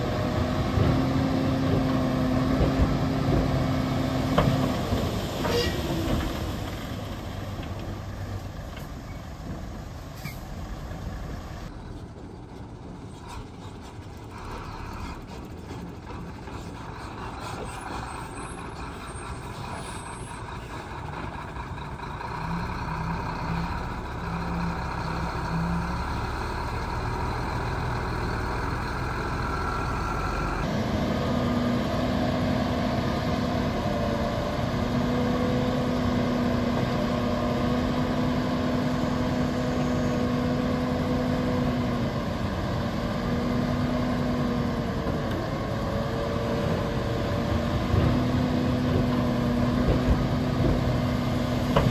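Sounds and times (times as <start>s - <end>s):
diesel earthmoving machinery: 0.0s - 51.9s.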